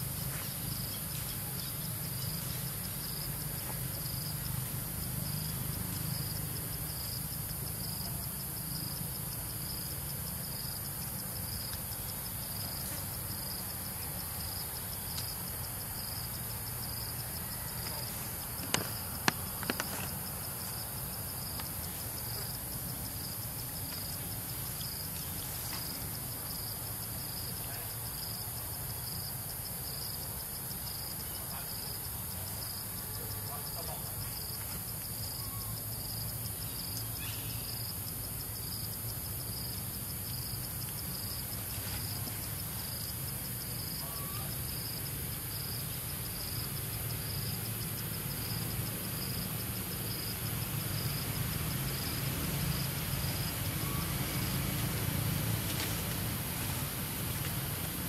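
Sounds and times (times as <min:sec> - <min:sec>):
constant high hiss: 0:00.0 - 0:58.0
insects droning: 0:00.0 - 0:58.0.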